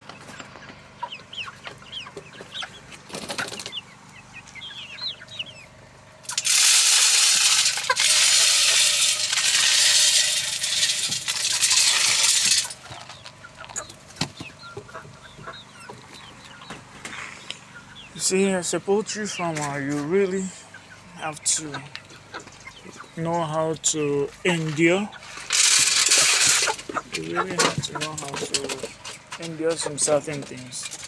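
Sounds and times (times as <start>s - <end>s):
chickens clucking and peeping: 0.0s - 31.0s.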